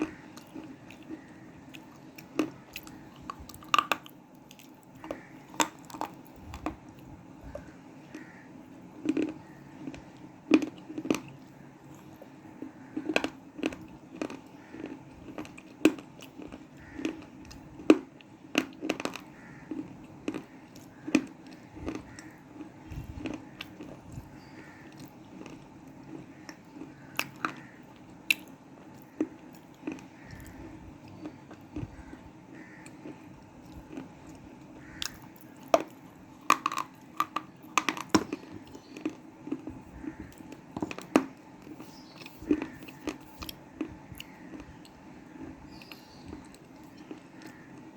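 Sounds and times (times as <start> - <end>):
chewing: 9.0 - 47.9.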